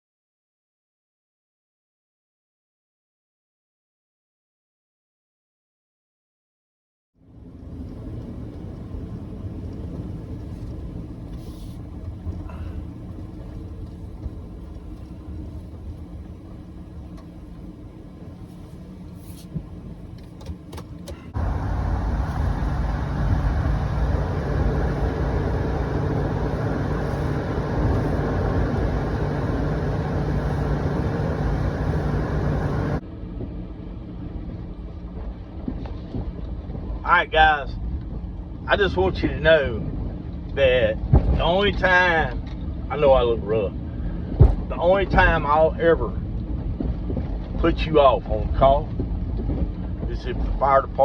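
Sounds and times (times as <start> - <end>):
motor vehicle rumbling: 7.2 - 51.0.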